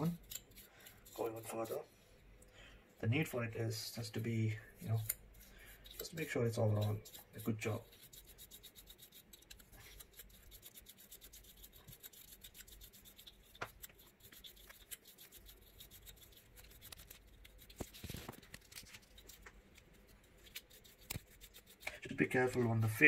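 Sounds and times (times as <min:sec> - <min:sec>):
toothbrush scratching fan blades: 0:00.0 - 0:02.0, 0:03.0 - 0:23.0.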